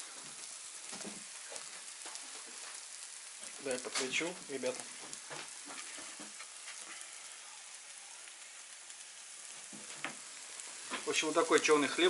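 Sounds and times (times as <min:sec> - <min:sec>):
bread sizzling in frying pan: 0:00.0 - 0:12.0.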